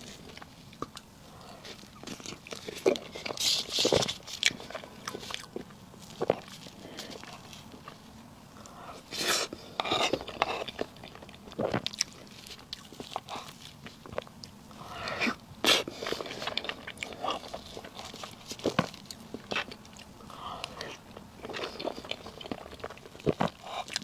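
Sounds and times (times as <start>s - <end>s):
wet chewing: 0.0s - 24.0s.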